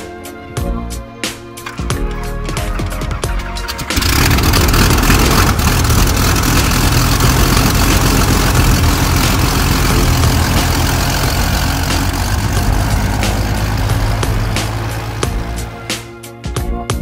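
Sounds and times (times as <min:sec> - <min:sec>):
aircraft engine idling: 0:01.6 - 0:16.2.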